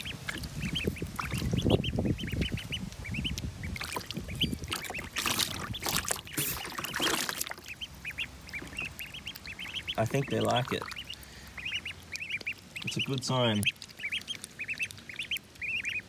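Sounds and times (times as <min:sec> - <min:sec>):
ducklings peeping: 0:00.0 - 0:16.0
water sloshing and splashing: 0:00.0 - 0:16.0.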